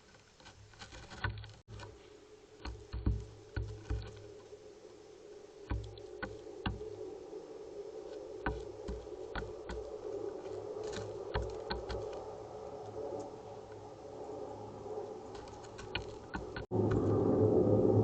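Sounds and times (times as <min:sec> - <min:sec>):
steady low hum: 0:01.5 - 0:18.0.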